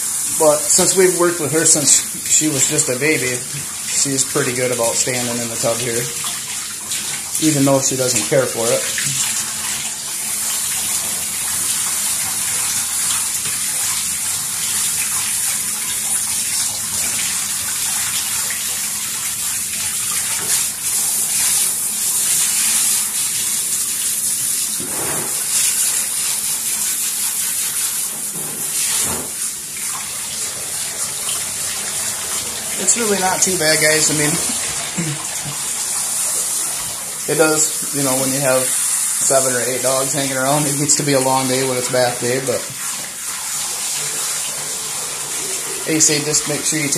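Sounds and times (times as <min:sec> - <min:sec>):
shower water hissing: 0:00.0 - 0:46.9.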